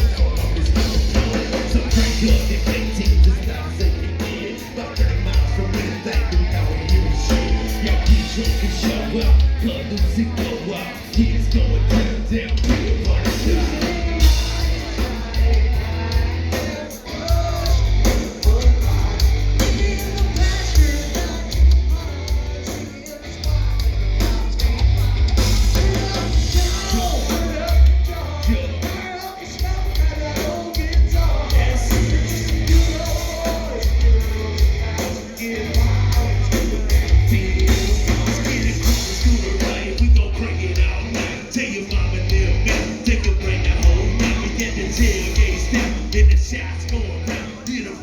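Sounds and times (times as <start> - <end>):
heavy pulsing bass: 0.0 - 48.0
live rock band playing: 0.0 - 48.0
person singing and yelling: 0.0 - 48.0.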